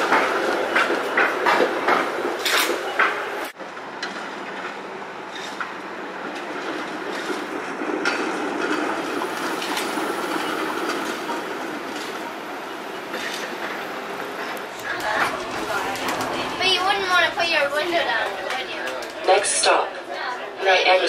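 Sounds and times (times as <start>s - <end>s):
streetcar wheels rumbling on rails: 0.0s - 20.9s.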